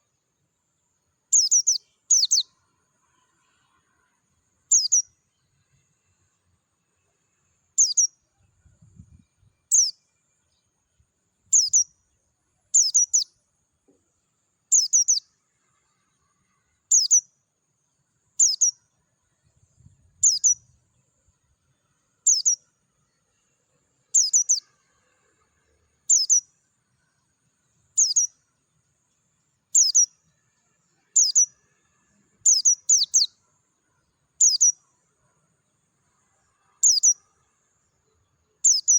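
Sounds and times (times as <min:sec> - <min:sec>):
bird chirping: 0:00.0 - 0:03.8, 0:04.6 - 0:06.3, 0:06.9 - 0:13.4, 0:14.3 - 0:24.7, 0:26.0 - 0:31.6, 0:32.3 - 0:38.9.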